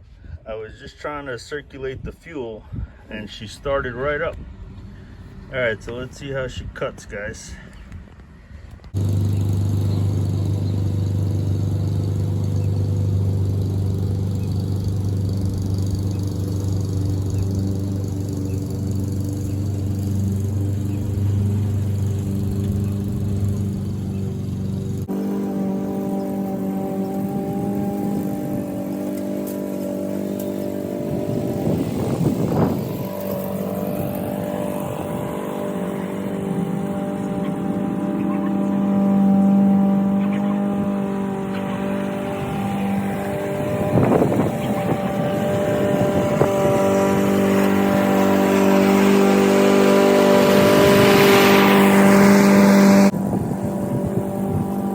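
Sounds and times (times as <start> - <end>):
lawn mower engine running: 8.9 - 54.9.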